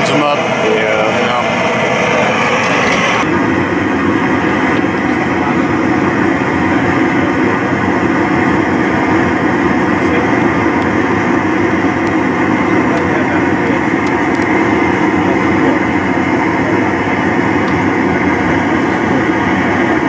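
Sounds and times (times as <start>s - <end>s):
gas burner roaring: 0.0s - 20.0s.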